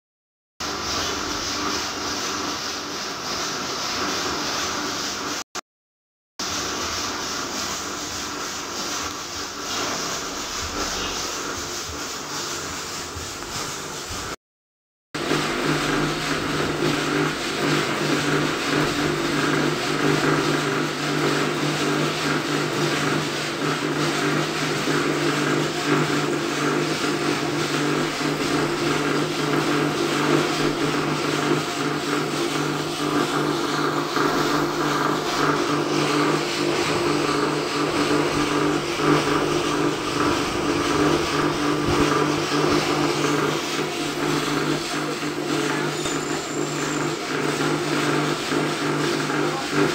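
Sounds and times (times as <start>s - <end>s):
coffee beans tumbling in drum: 0.6s - 5.4s, 6.4s - 14.4s, 15.2s - 49.9s
roaster motor and fan hum: 0.6s - 5.4s, 6.4s - 14.4s, 15.2s - 49.9s.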